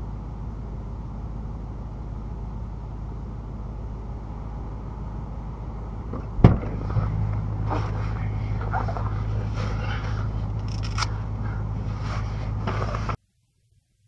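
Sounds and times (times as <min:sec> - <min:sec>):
engine idling: 0:00.0 - 0:13.2.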